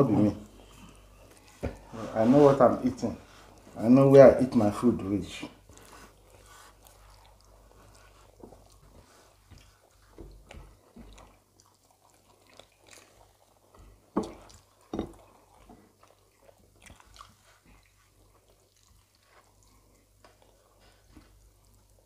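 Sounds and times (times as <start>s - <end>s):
food squishing on plates: 0.0s - 22.0s
people chewing: 0.0s - 22.0s.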